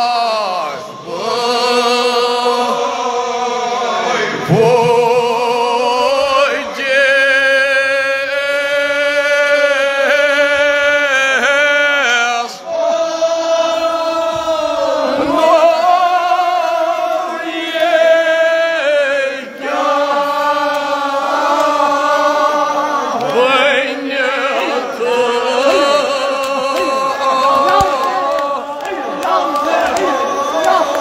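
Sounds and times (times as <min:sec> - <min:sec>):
crowd chanting in unison: 0:00.0 - 0:31.0.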